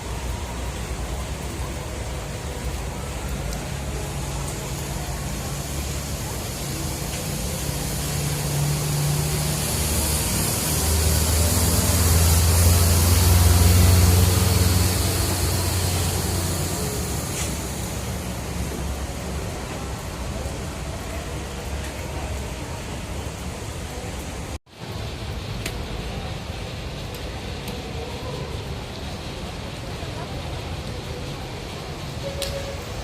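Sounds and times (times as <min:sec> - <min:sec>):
bus engine humming: 0:00.0 - 0:33.0
heavy rain falling: 0:00.0 - 0:33.0.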